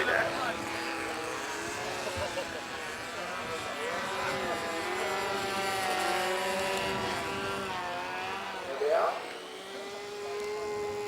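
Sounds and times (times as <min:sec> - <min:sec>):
model aircraft engines droning: 0:00.0 - 0:11.0.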